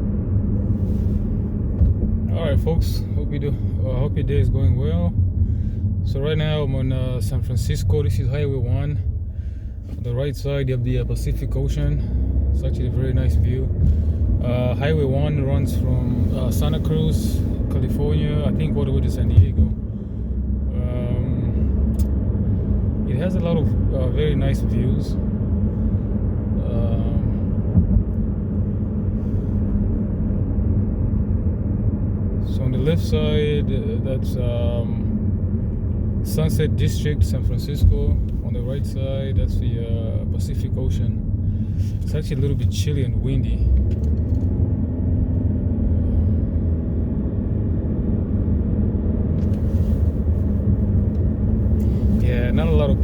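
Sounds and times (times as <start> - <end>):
road and wind noise inside car: 0.0 - 53.0.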